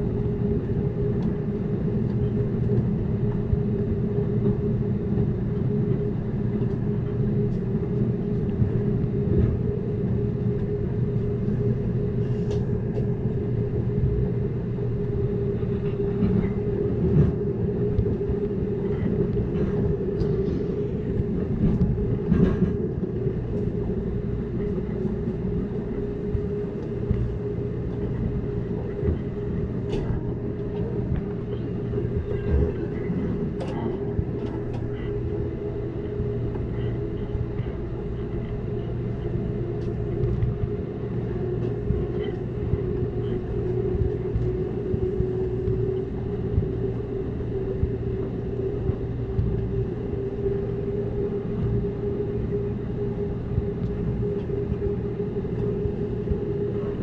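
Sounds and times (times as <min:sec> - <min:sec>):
train rumbling at speed: 0:00.0 - 0:57.0.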